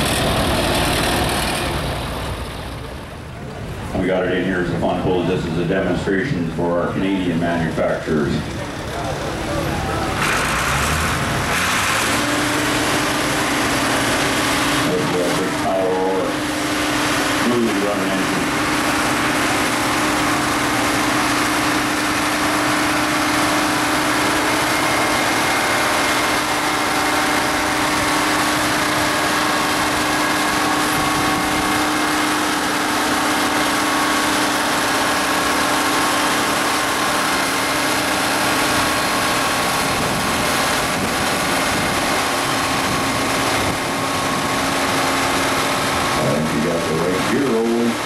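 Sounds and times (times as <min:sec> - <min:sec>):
tractor diesel engine droning: 0:00.0 - 0:48.0.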